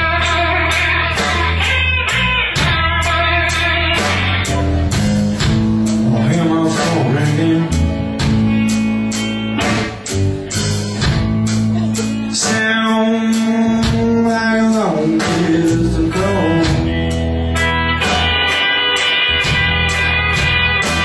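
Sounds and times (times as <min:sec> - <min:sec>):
electric blues band playing: 0:00.0 - 0:21.0
electric guitar: 0:00.0 - 0:21.0.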